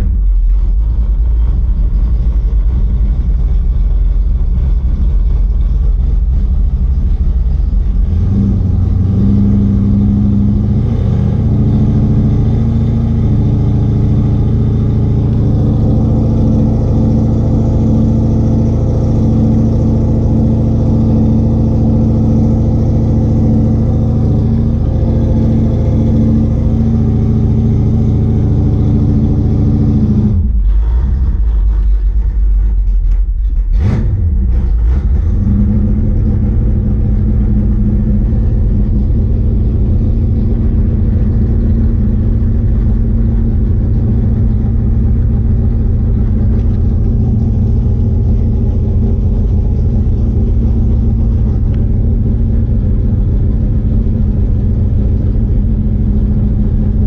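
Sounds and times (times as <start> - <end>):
car engine running at raised revs: 0.0 - 57.0.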